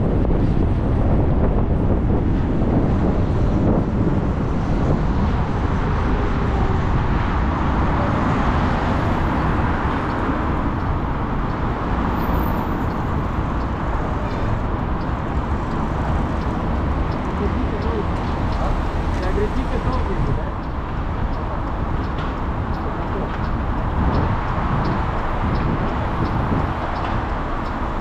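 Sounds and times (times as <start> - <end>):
motorbike road noise: 0.0 - 28.0
wind rush on microphone: 0.0 - 28.0.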